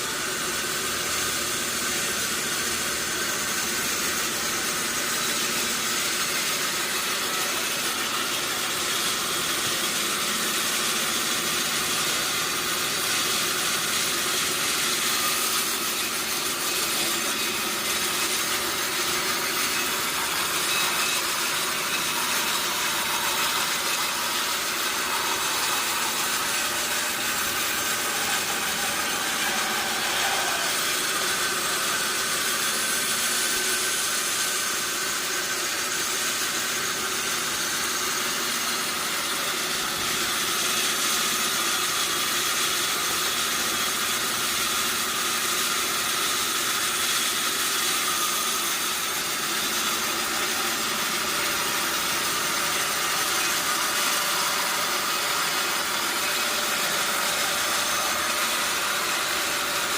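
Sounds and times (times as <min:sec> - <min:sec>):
sawmill machine running: 0:00.0 - 0:59.9.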